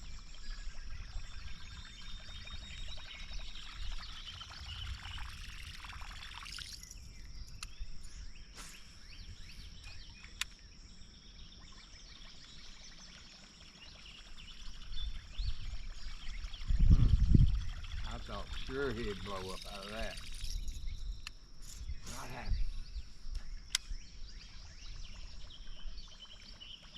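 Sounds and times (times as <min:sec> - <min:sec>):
outdoor noise: 0:00.0 - 0:26.9.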